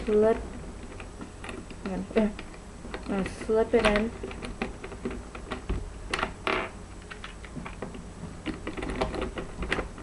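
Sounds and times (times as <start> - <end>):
plastic puzzle pieces clicking: 0.8 - 10.0.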